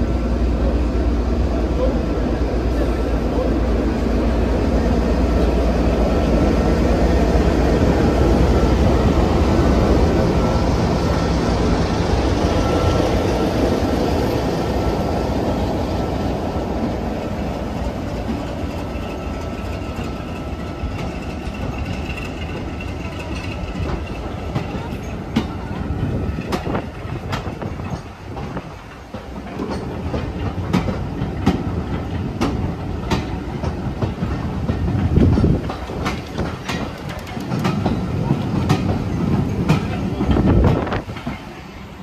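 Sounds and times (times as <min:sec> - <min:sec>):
coaches rolling on rails: 0:00.0 - 0:42.0
diesel locomotive engine: 0:00.0 - 0:42.0.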